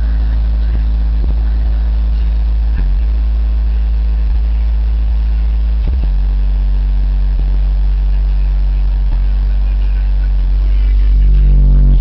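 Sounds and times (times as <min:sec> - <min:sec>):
car subwoofers playing bass notes: 0:00.0 - 0:12.0.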